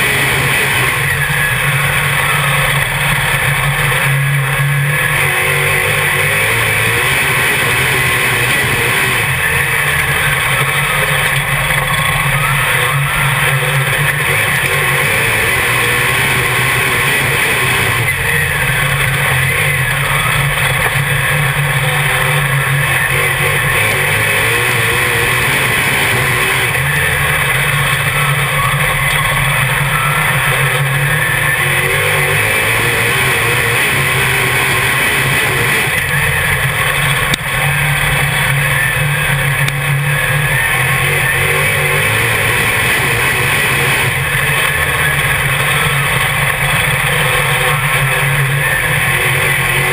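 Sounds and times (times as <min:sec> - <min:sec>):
race car engine roaring: 0:00.0 - 0:49.9.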